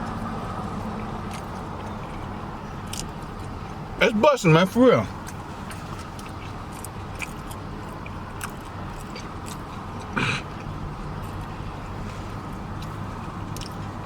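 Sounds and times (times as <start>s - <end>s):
mouth chewing with wet clicks: 0.0s - 14.0s.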